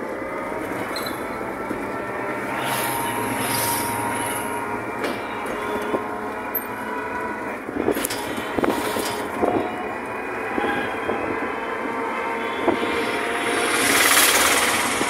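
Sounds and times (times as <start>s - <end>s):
train wheels rumbling and rattling: 0.0s - 15.0s.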